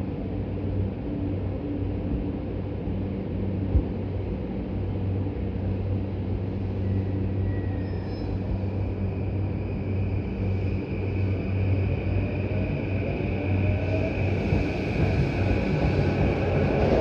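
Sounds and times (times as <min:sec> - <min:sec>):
train rumble and hum: 0:00.0 - 0:17.0.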